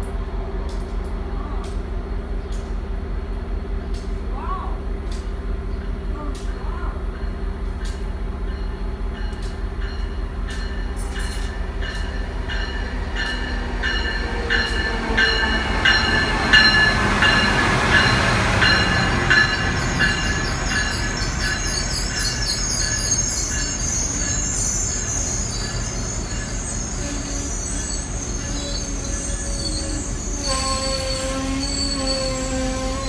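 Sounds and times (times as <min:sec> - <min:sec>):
passenger coaches rumbling: 0:00.0 - 0:33.0
wheels screeching on rails: 0:04.8 - 0:33.0
train bell ringing: 0:05.8 - 0:33.0.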